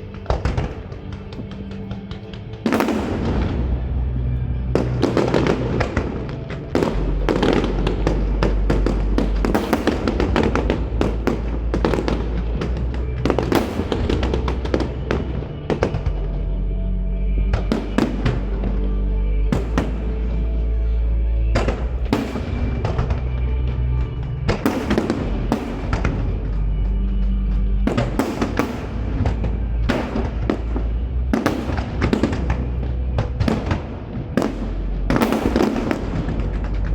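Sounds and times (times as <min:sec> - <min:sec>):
fireworks bangs and crackles: 0:00.0 - 0:16.4, 0:17.5 - 0:18.9, 0:19.5 - 0:20.7, 0:21.5 - 0:36.9
music with held bass notes: 0:02.6 - 0:36.9.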